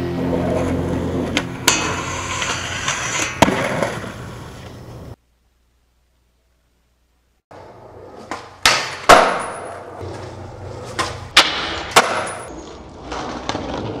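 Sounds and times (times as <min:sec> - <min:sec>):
skateboard rolling: 0:00.0 - 0:05.2, 0:07.5 - 0:14.0.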